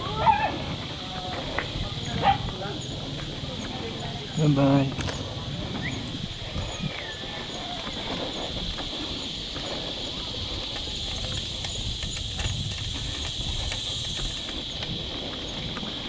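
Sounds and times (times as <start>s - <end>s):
high-pitched hiss: 0.0s - 16.0s
tyres rumbling on dirt: 0.0s - 16.0s
wind on microphone: 0.0s - 16.0s
bike clicks and rattles: 0.8s - 16.0s.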